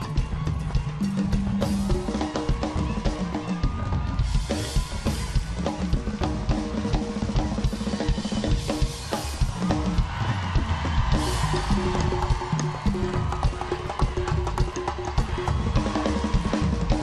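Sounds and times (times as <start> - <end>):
drum kit and hand percussion: 0.0 - 17.0
live band dance groove: 0.0 - 17.0.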